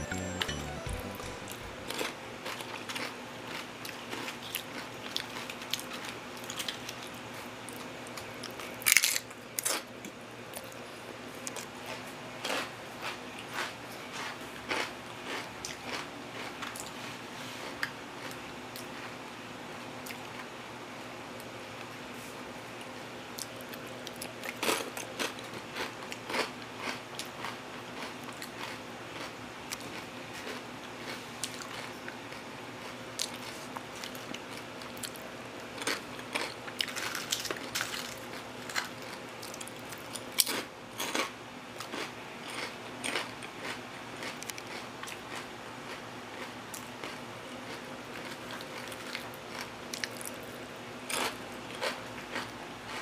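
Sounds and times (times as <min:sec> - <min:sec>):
chips being bitten and chewed: 0:00.0 - 0:09.9, 0:11.4 - 0:19.2, 0:22.8 - 0:53.0.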